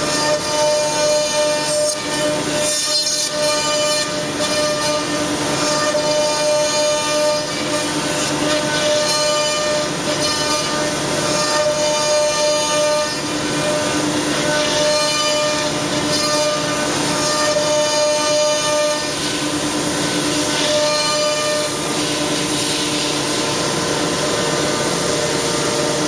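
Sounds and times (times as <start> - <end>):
cnc router whining: 0.0 - 26.0.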